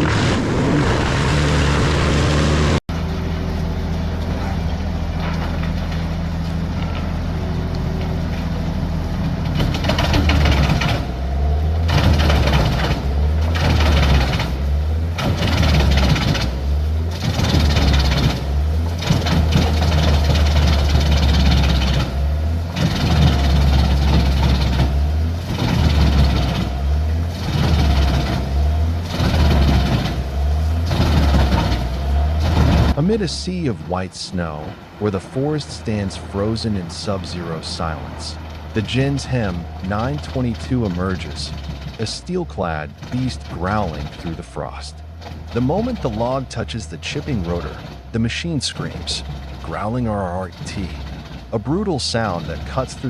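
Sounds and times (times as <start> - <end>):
wood chipper chipping wood: 0.0 - 53.0
wood chipper engine running: 0.0 - 53.0.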